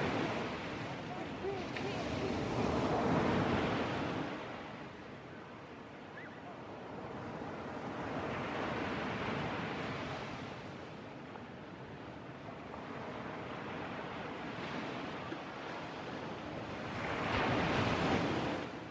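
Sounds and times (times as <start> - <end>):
sea waves breaking on beach: 0.0 - 18.9.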